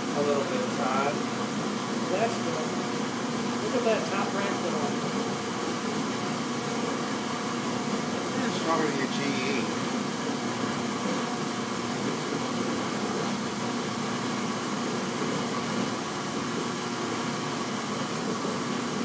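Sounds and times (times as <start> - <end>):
dishwasher motor hum: 0.0 - 19.0.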